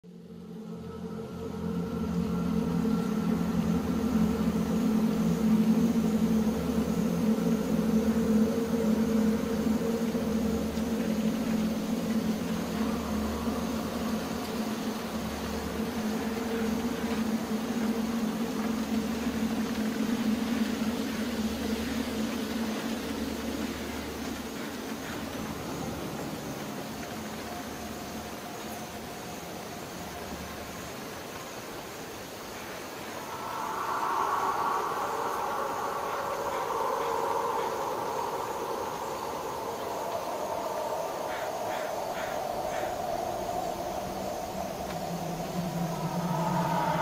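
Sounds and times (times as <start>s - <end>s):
low drone tones: 0.1s - 31.0s, 32.8s - 47.0s.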